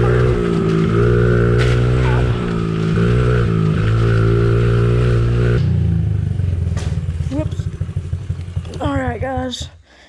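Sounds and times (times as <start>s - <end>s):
pit bike engine revving: 0.0s - 9.8s.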